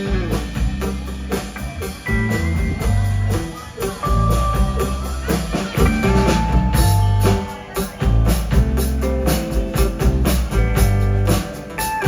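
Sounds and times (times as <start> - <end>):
bass: 0.0 - 12.0
drum kit beat: 0.0 - 12.0
electric guitar: 0.0 - 12.0.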